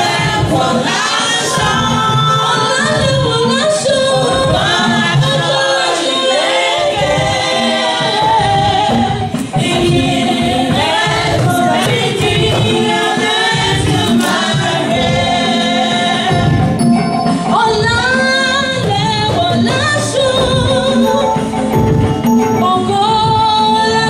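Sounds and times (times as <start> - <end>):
congregation singing a hymn: 0.0 - 24.0.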